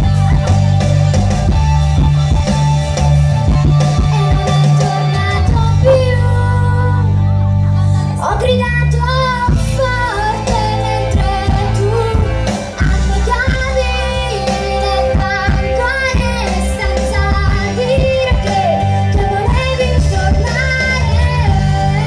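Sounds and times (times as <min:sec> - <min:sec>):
backing music with steady beat: 0:00.0 - 0:22.0
girl singing into a microphone: 0:04.0 - 0:22.0.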